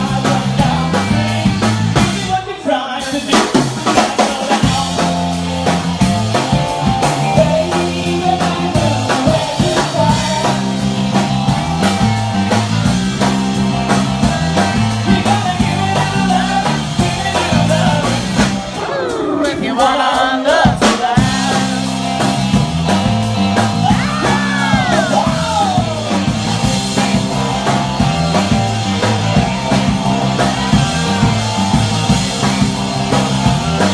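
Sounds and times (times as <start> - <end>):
live rock band playing: 0.0 - 33.9
bending lead guitar lines: 4.6 - 19.7, 21.2 - 33.9.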